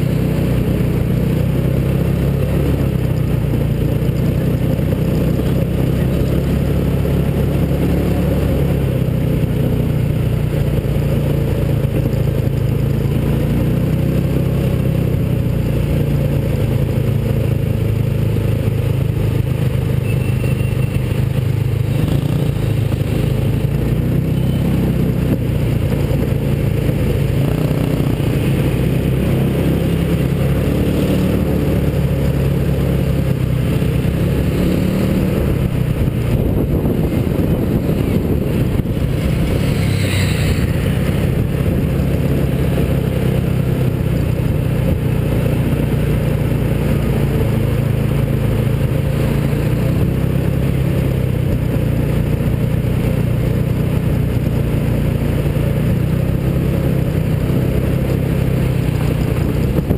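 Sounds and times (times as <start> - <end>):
small car engine running: 0.0 - 59.9.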